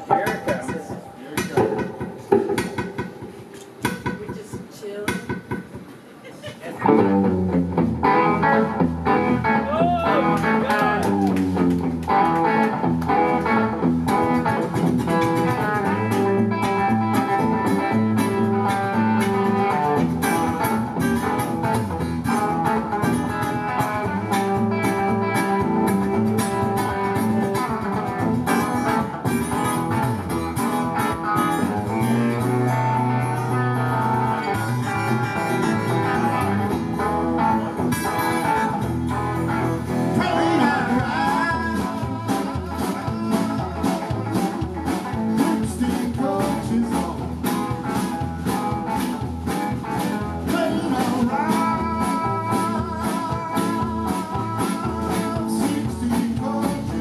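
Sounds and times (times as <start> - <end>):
acoustic guitar: 0.0 - 57.0
drums: 0.0 - 57.0
electric guitar: 5.3 - 57.0
bass guitar: 6.6 - 57.0.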